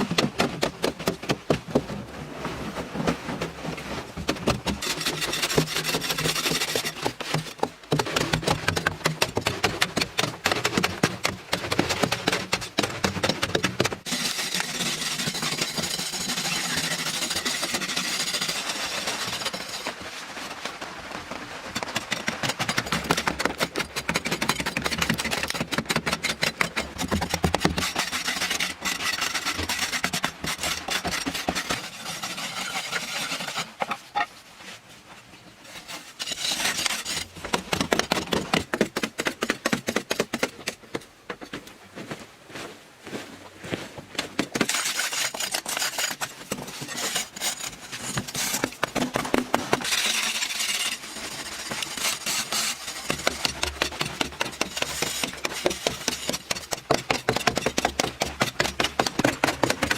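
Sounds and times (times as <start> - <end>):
rasping scraping strokes: 0.1 - 20.6, 21.6 - 34.8, 35.6 - 40.7, 44.6 - 59.9.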